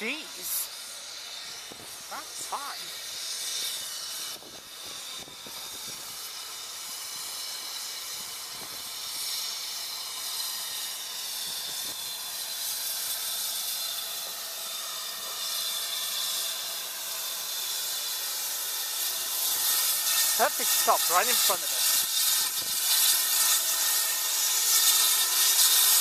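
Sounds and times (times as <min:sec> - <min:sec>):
steam locomotive hissing steam: 0:00.0 - 0:26.0.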